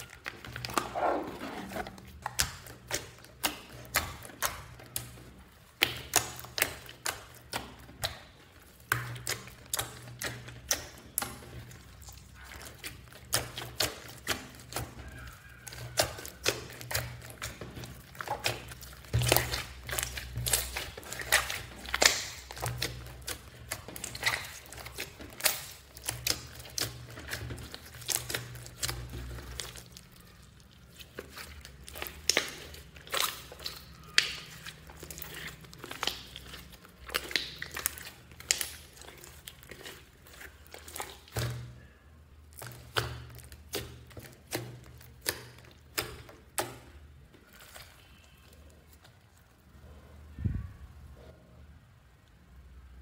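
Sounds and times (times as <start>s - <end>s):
slime squelching: 0.0s - 53.0s.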